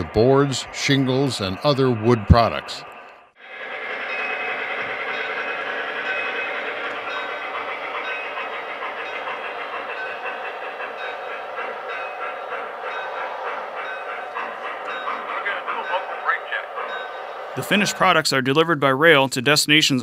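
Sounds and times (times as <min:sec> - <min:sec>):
model trains running: 0:00.0 - 0:20.0.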